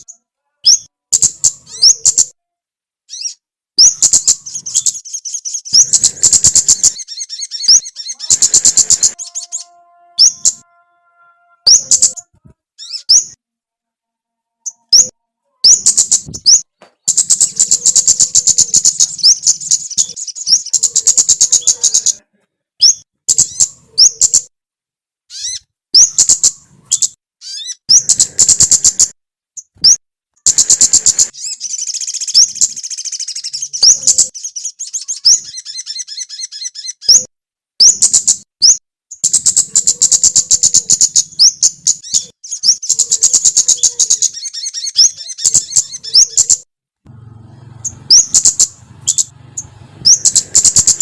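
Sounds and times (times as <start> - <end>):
songbird chirping and trilling: 0.0 - 2.4, 3.1 - 13.5, 14.2 - 24.5, 25.3 - 51.0.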